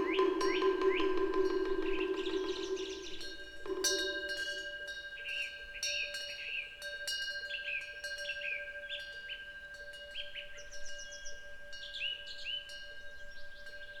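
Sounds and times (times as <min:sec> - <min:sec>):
wind bell ringing: 0:00.0 - 0:14.0.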